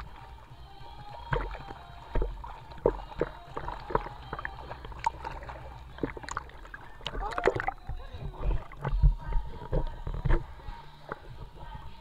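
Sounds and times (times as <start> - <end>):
low rumble of moving water: 0.0 - 12.0
pool water sloshing and splashing: 0.0 - 12.0
water slapping against camera: 0.0 - 12.0.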